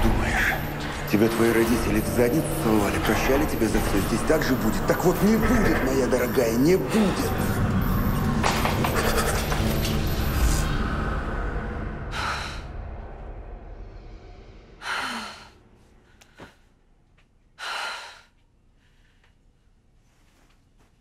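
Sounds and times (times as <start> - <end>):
rushing background sound: 0.0 - 16.8.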